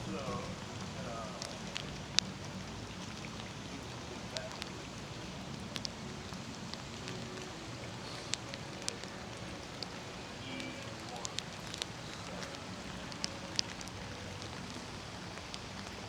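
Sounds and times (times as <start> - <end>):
drops ticking on surfaces: 0.0 - 16.0
steady rain falling: 0.0 - 16.0.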